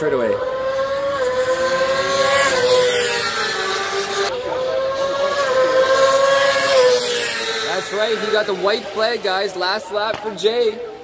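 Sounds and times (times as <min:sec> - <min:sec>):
motorcycle engine whine: 0:00.0 - 0:11.0.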